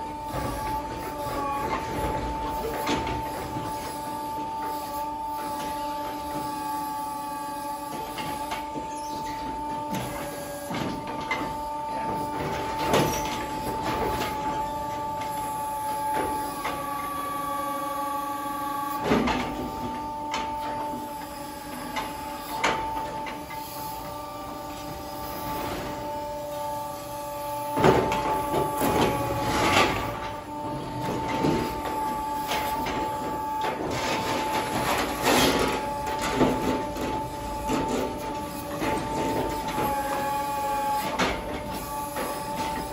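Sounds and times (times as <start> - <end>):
crane machine whine: 0.0 - 42.9.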